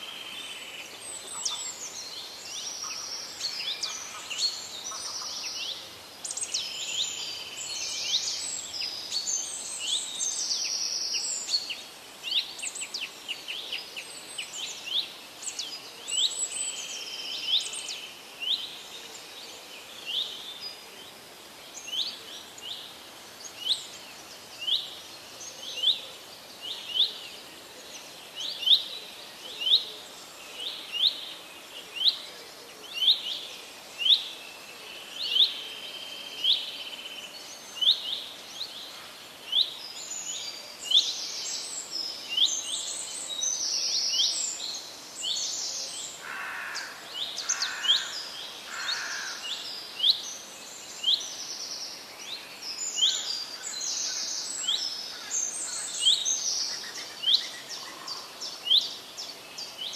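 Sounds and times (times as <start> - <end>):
forest ambience hiss: 0.0 - 59.9.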